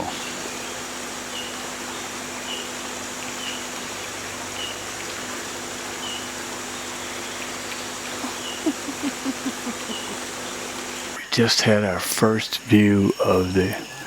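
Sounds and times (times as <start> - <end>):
rainforest hiss: 0.0 - 14.0.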